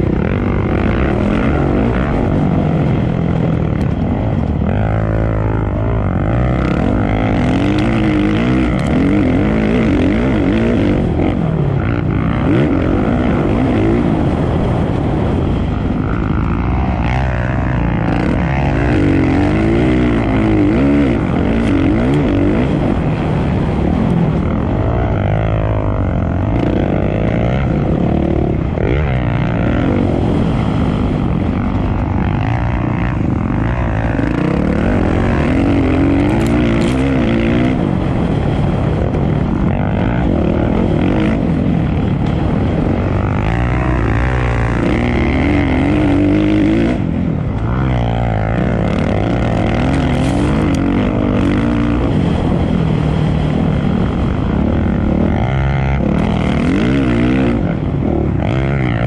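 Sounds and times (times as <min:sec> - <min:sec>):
racing engines revving: 0:00.0 - 0:59.0.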